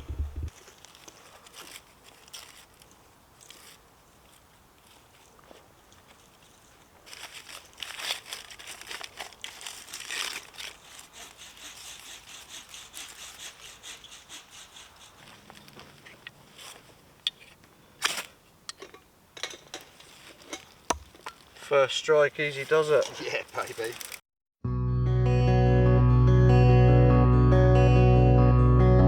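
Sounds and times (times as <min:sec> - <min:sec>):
kindling rustling and crackling: 0:00.0 - 0:24.2.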